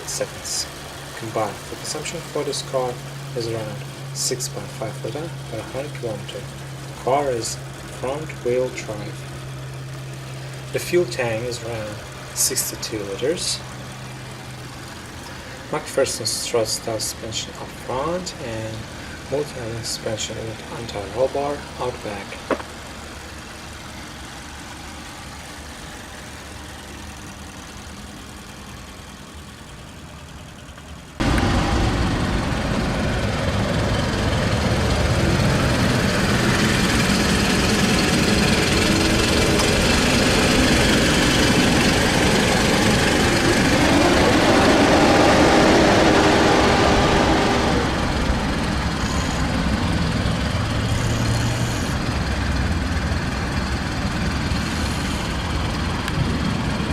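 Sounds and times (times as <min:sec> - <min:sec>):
car engine running: 0:00.0 - 0:56.9
loud engine and vehicle noise: 0:00.0 - 0:56.9.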